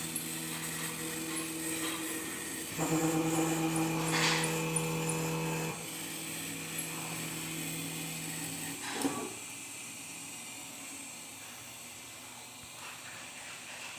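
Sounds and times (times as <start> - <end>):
glass-cutting machine hum: 0.0 - 12.5
high machine whine: 0.0 - 12.9.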